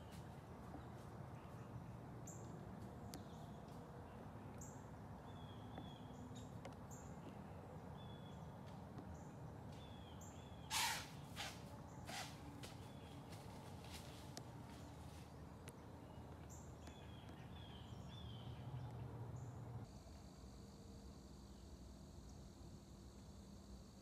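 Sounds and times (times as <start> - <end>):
distant bird calls: 0.0 - 19.7.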